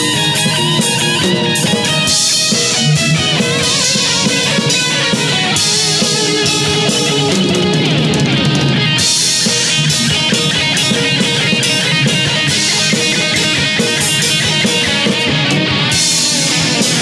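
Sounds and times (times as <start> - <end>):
falling guitar slide: 0.0 - 17.0
rock band playing: 0.0 - 17.0.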